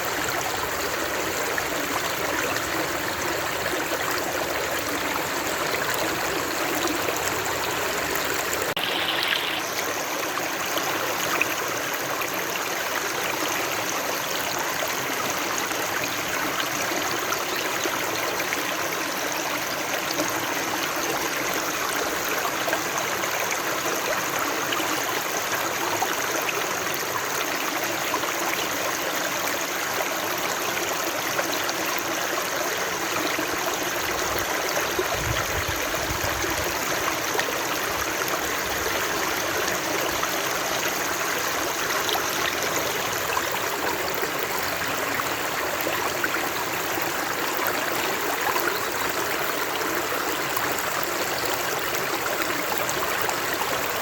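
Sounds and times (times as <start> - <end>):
flowing water: 0.0 - 54.0.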